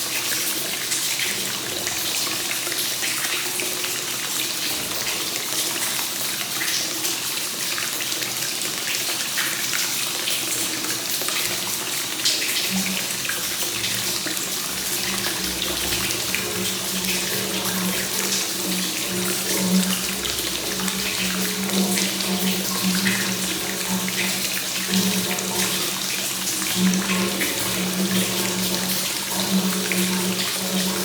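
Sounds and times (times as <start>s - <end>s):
hot spring water splashing: 0.0s - 31.0s.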